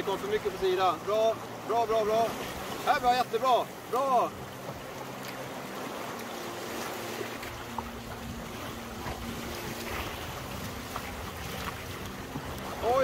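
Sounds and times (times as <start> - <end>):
river rapids rushing: 0.0 - 13.0.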